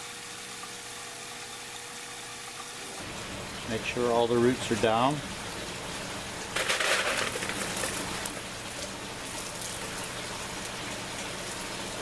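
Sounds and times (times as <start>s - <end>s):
water trickling and splashing: 0.4s - 12.0s.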